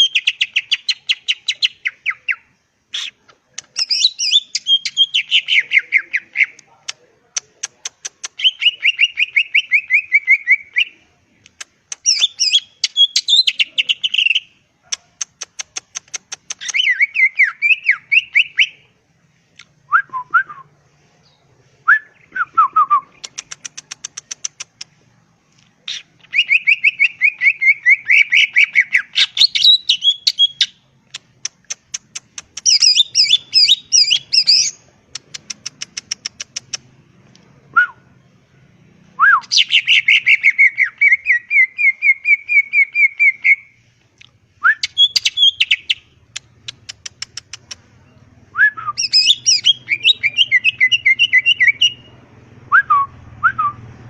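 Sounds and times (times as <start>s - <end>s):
songbird singing trills: 0.0s - 6.7s, 7.6s - 14.6s, 15.2s - 18.9s, 25.8s - 36.9s, 37.7s - 53.9s.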